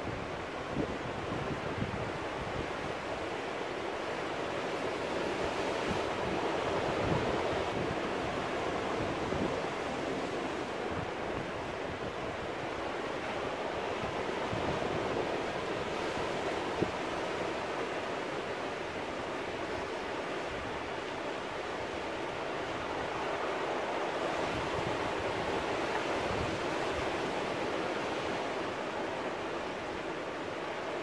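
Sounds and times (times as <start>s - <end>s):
surf washing among rocks: 0.0s - 31.0s.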